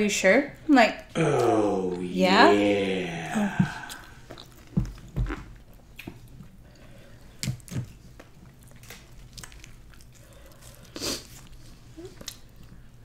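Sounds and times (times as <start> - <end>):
close chewing and mouth sounds: 0.5 - 13.0.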